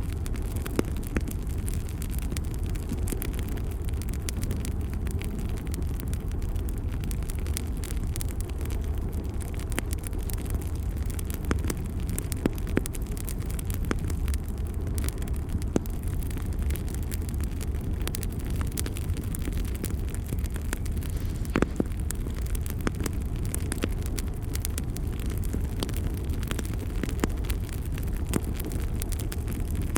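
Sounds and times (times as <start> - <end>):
bonfire roaring: 0.0 - 29.9
wood crackling and popping: 0.0 - 29.9.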